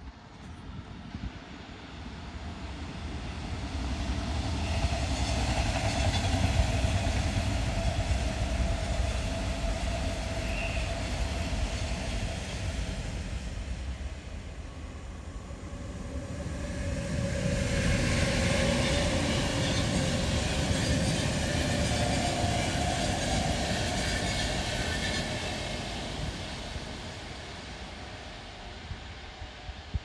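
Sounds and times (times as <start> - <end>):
trains rumbling on rails: 0.0 - 30.0.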